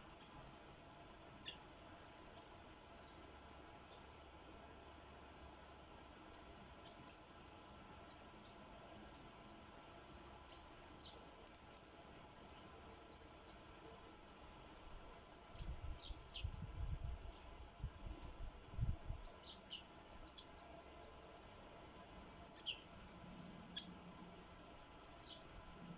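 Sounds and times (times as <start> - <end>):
sparrows chirping: 0.0 - 4.5, 5.6 - 25.9.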